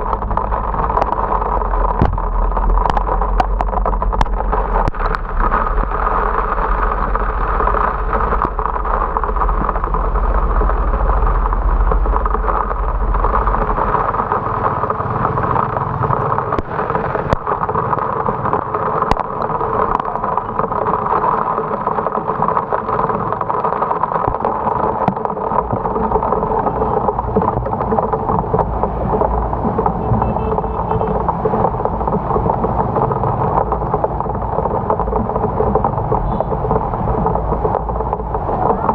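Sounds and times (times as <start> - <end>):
heavy rain: 0.0 - 38.9
motorcycle road noise: 0.0 - 38.9
wind rumble on microphone: 0.0 - 38.9.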